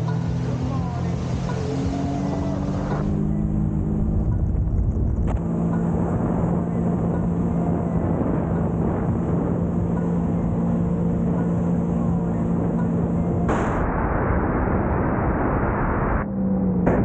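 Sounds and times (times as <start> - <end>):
personal watercraft engine: 0.0 - 14.2
water spray and wind rushing: 0.0 - 14.9.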